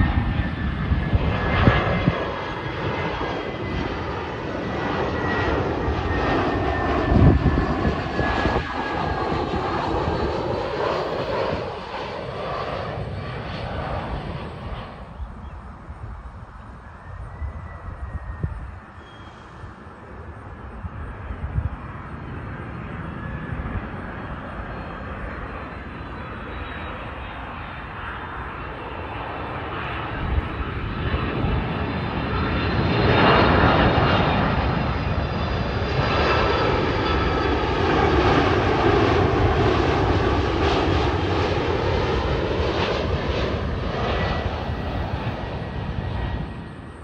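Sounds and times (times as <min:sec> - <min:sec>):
jet aircraft passing overhead: 0:00.0 - 0:47.0.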